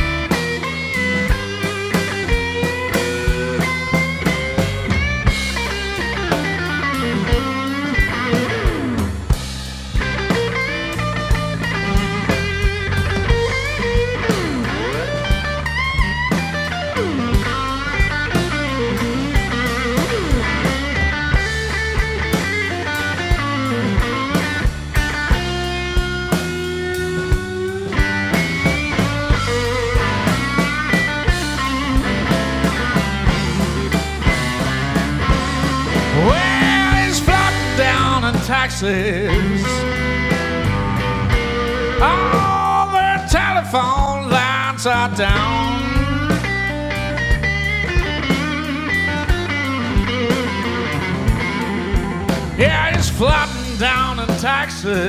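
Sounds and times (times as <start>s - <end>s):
drum kit: 0.0s - 55.0s
electric bass: 0.0s - 55.0s
electric guitar lead: 0.0s - 55.0s.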